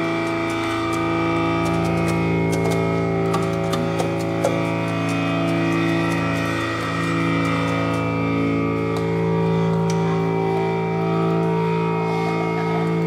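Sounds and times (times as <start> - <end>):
string instrument drone: 0.0 - 13.0.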